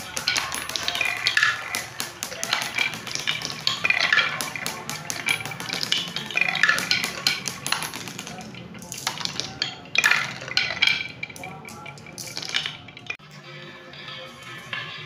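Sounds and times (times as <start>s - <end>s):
marbles rattling on wooden track: 0.0s - 13.2s.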